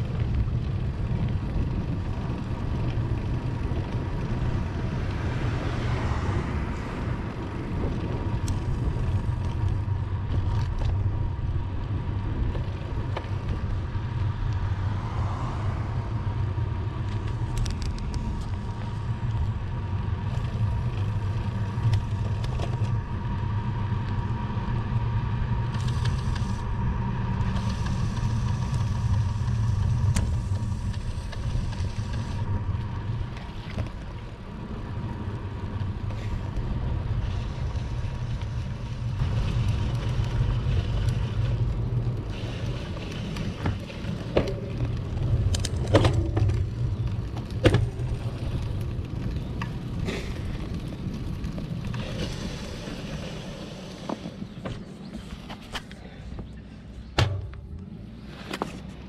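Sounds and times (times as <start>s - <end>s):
wind buffeting microphone: 0.0s - 55.7s
bicycle road noise: 0.0s - 59.0s.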